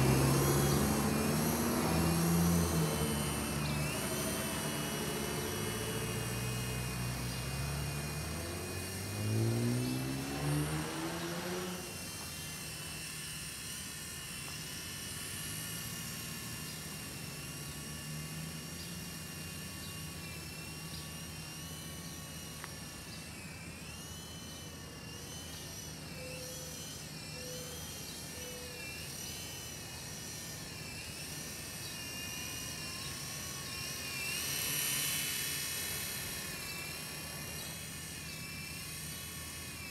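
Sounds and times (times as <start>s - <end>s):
low engine sound: 0.0s - 39.9s
model helicopter rotor whine: 0.0s - 39.9s.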